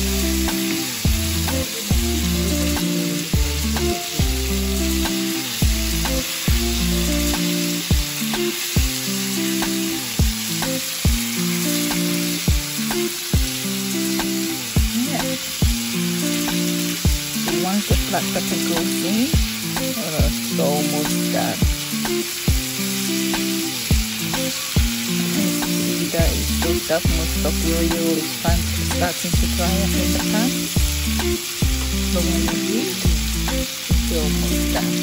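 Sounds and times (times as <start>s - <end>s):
chicken sizzling in a pan: 0.0s - 35.0s
slow beat background music: 0.0s - 35.0s.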